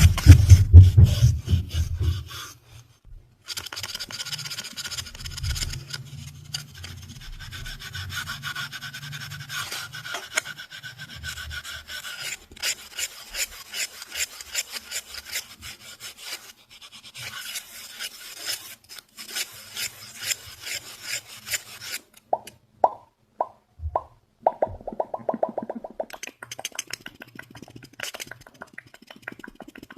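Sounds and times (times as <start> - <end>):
rapid rasping scratching: 0.0 - 2.6, 3.5 - 22.2, 26.1 - 29.9.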